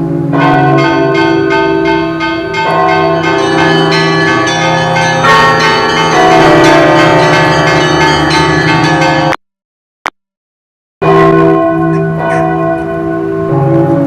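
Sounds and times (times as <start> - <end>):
church bells ringing a peal: 0.0 - 9.4, 11.0 - 14.0.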